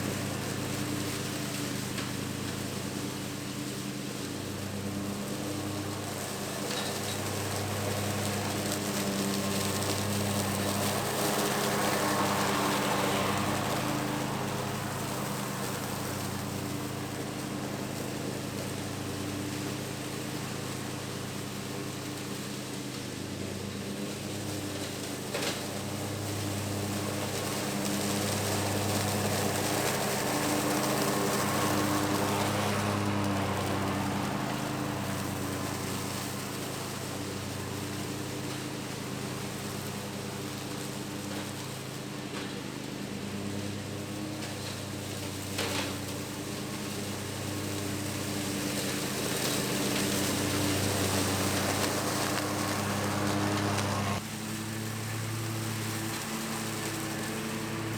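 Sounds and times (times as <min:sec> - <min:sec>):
lawn mower running: 0:00.0 - 0:57.9.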